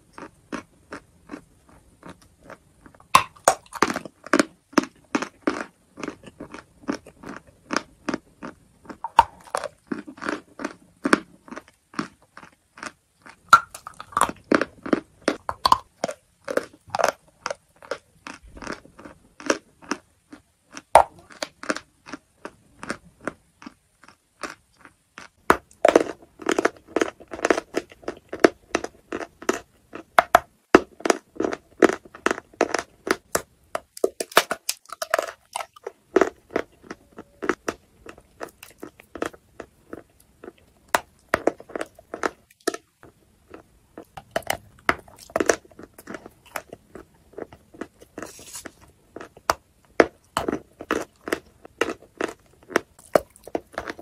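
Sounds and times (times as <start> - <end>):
chalk crunching and chewing: 0.0 - 54.0.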